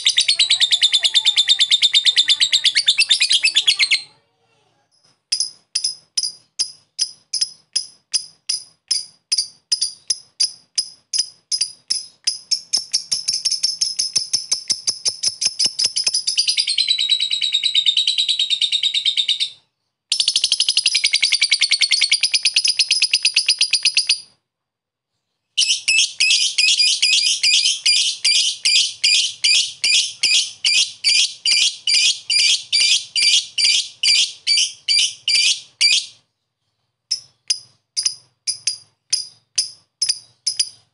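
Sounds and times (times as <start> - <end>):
lovebird chirping and trilling: 0.0 - 4.1, 5.3 - 24.4, 25.6 - 36.2, 37.1 - 40.9.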